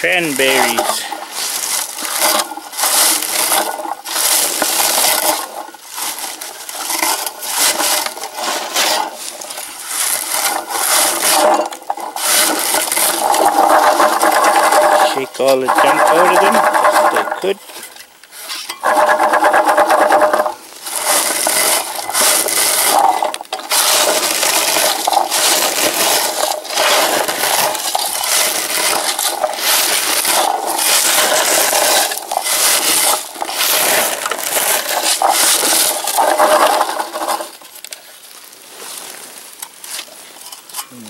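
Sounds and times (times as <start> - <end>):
berries rattling into scoop: 0.0 - 18.0, 18.8 - 37.8
scoop scraping through bushes: 0.0 - 41.0.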